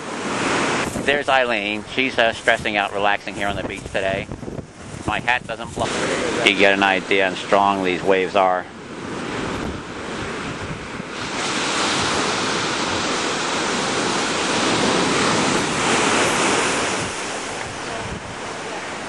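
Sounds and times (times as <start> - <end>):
surf breaking on a beach: 0.0 - 19.0
wind buffeting the microphone: 0.0 - 19.0.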